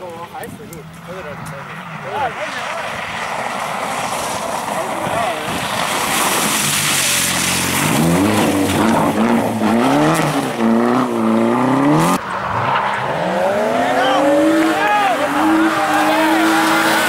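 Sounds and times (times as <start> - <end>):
rally car accelerating: 0.9 - 17.0
rally car engine revving: 0.9 - 17.0.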